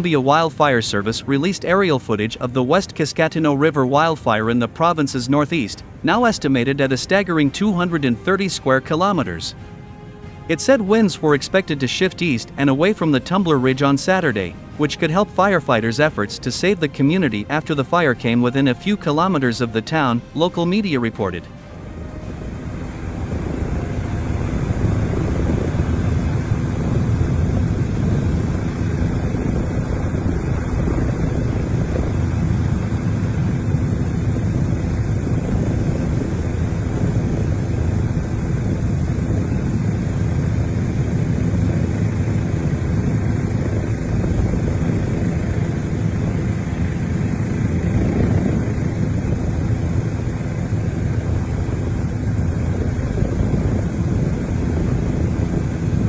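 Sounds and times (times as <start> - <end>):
aircraft engine drone from inside: 0.0 - 56.0.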